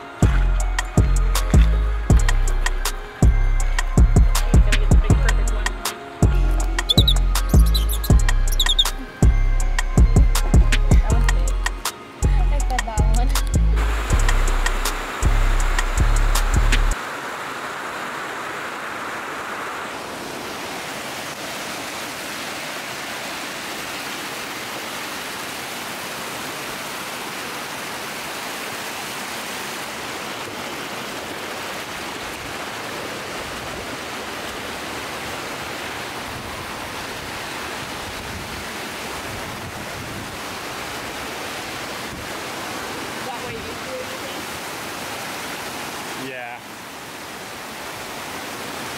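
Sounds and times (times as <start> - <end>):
creek and waterfall over rocks: 0.0 - 48.9.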